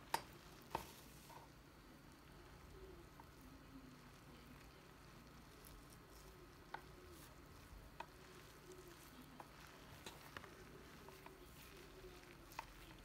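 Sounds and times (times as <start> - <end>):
stress ball squishing: 0.0 - 13.0.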